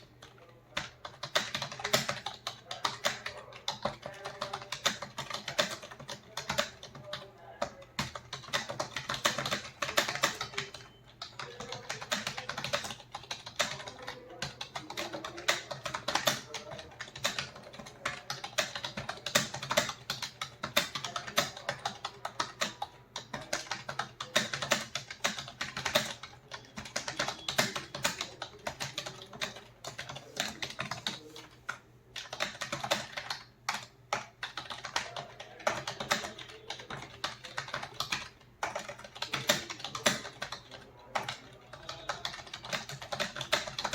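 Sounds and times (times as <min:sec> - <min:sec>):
typing on a computer keyboard: 0:00.0 - 0:43.9.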